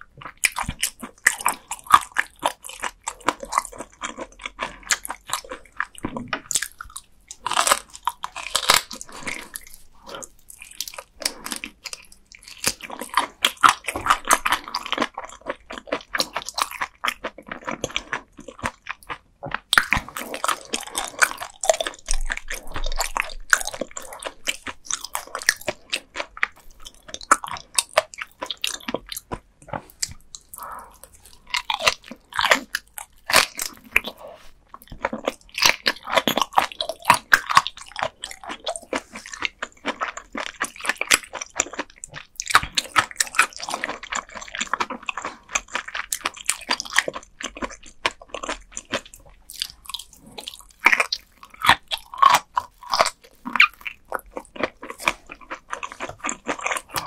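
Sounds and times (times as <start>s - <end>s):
chewing fish bones: 0.0s - 57.0s
crunching of soft bones: 0.0s - 57.0s.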